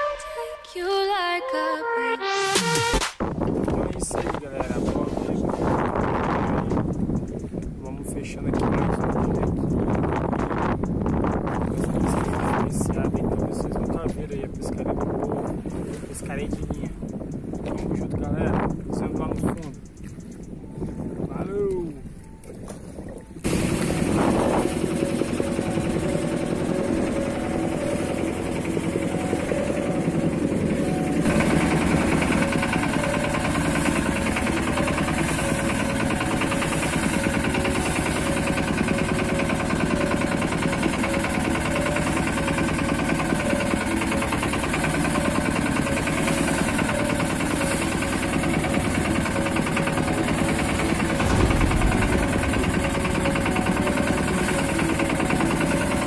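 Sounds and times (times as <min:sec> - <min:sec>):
boat engine knocking: 0:03.2 - 0:56.0.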